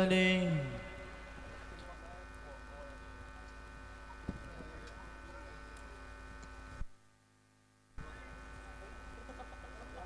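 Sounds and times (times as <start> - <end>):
electrical hum from speakers: 0.0 - 10.0.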